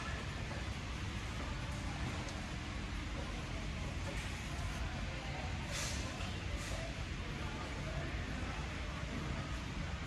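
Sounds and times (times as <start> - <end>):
warehouse store background rumble: 0.0 - 10.0.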